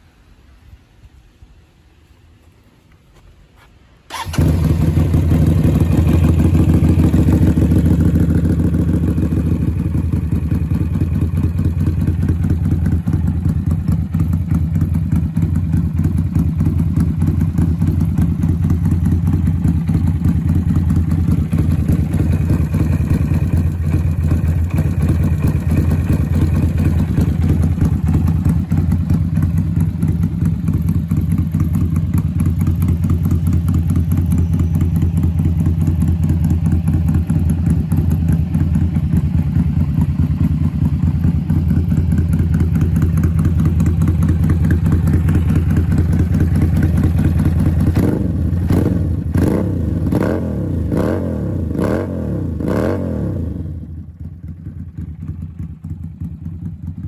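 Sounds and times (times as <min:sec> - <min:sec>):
motorcycle engine idling: 0:04.1 - 0:57.0.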